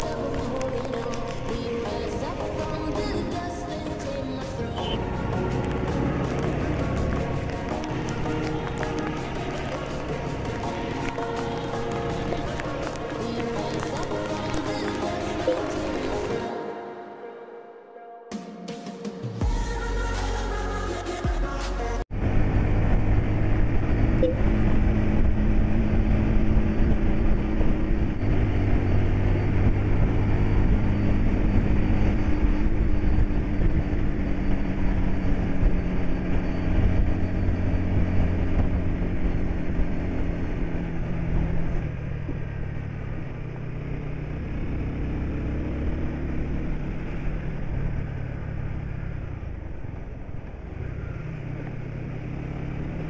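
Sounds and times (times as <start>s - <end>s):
bus engine running: 0.0s - 16.5s, 21.5s - 53.0s
road rumble: 0.0s - 16.5s, 19.5s - 53.0s.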